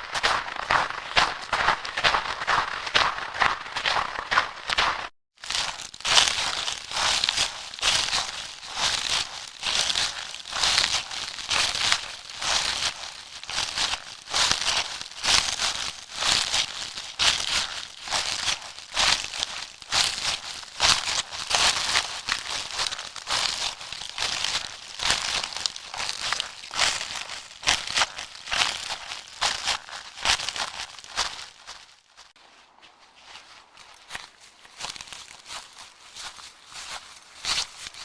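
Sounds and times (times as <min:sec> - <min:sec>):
footsteps crunching: 0:00.0 - 0:38.0.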